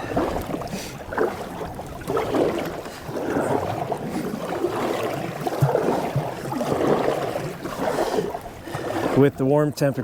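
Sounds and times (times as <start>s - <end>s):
paddle splashing water: 0.0s - 10.0s.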